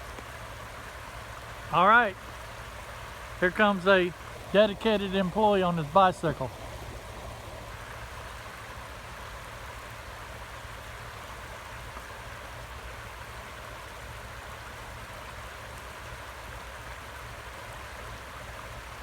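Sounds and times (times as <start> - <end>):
river floodwater rushing: 0.0 - 19.0.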